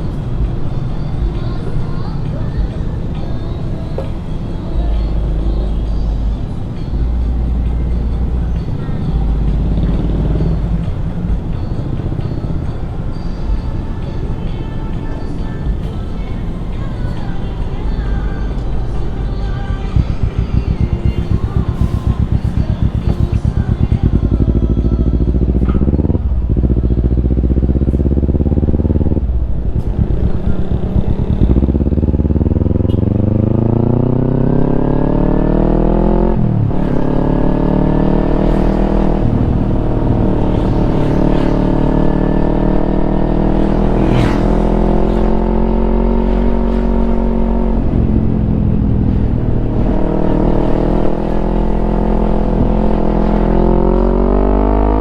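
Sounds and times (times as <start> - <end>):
motorcycle engine shifting gears: 2.6 - 55.0.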